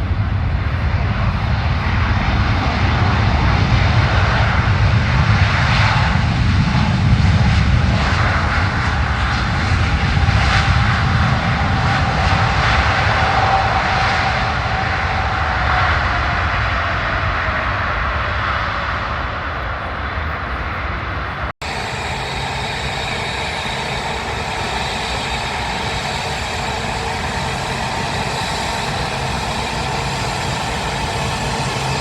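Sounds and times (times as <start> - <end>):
faint engine whine: 0.0 - 32.0
jet engines roaring: 0.0 - 32.0.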